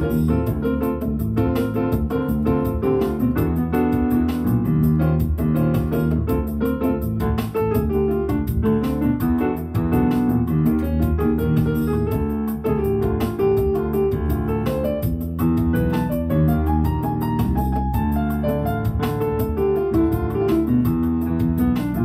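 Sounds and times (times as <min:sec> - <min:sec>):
fast ticking beat: 0:00.0 - 0:22.0
jazz on keyboard piano: 0:00.0 - 0:22.0.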